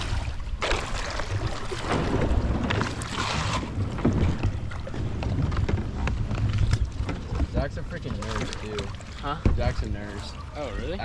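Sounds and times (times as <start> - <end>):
water rushing: 0.0 - 11.0
wind rumbling on microphone: 0.0 - 11.0.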